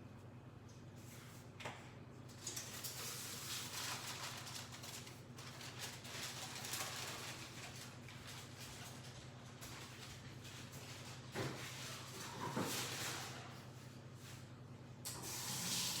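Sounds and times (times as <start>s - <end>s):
rustling handling noises: 1.0s - 14.5s.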